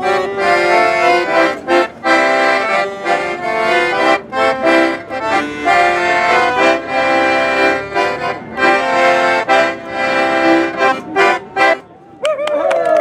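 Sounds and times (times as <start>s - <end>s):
piano accordion playing chords: 0.0s - 12.0s.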